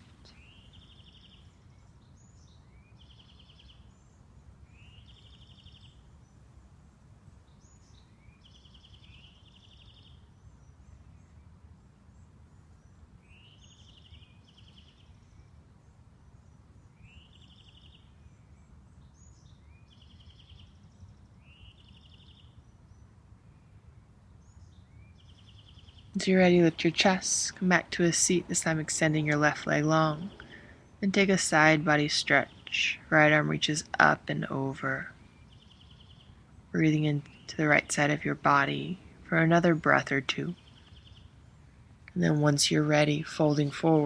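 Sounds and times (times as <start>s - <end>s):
bird singing a trill: 0.0s - 6.4s, 7.5s - 44.0s
low background rumble: 0.0s - 44.0s.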